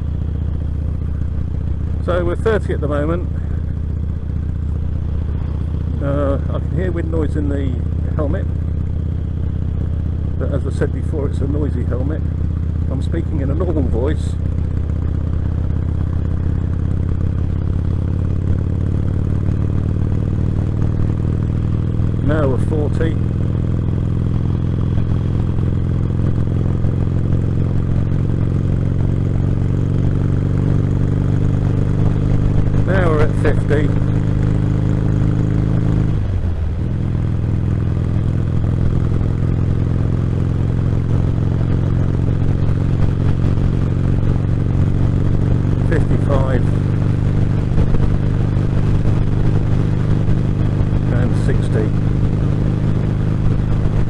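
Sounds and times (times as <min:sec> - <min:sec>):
motorcycle engine drone: 0:00.0 - 0:54.0.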